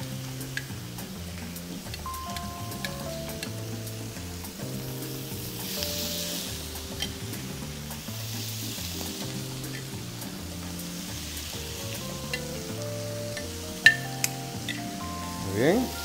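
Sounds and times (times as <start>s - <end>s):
background music with bass: 0.0s - 16.0s
chicken sizzling on grill pan: 0.0s - 16.0s.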